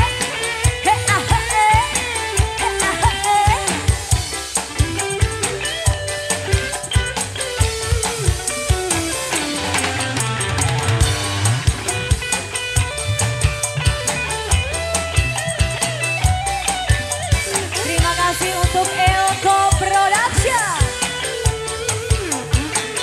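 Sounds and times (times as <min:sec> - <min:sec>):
drum beat: 0:00.0 - 0:23.0
live band playing: 0:00.0 - 0:23.0
sliding lead melody: 0:00.0 - 0:23.0.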